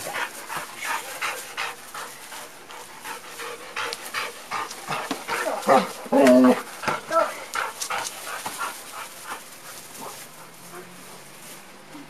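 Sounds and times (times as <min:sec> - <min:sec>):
dog panting: 0:00.0 - 0:11.3.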